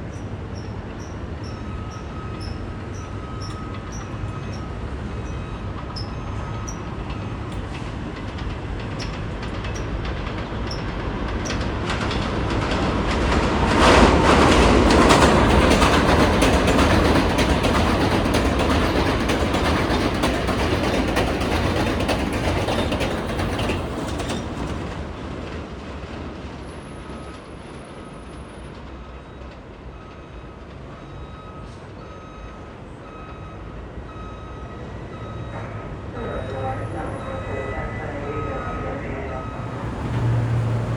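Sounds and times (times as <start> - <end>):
train rumbling on elevated track: 0.0 - 40.9.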